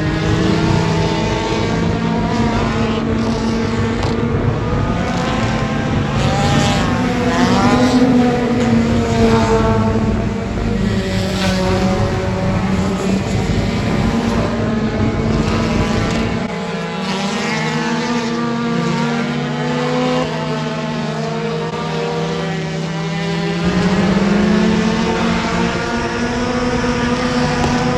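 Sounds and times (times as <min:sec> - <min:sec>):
race car engines at speed: 0:00.0 - 0:27.9.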